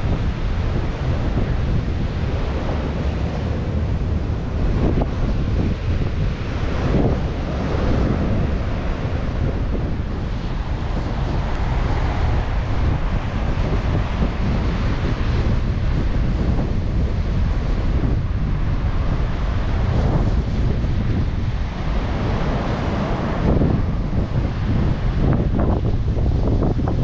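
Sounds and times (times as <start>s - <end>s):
ocean surf breaking: 0.0s - 27.0s
wind on microphone rumbling: 0.0s - 27.0s.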